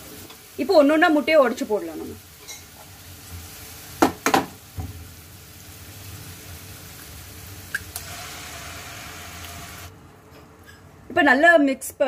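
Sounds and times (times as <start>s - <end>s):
oil sizzling: 0.0s - 10.2s.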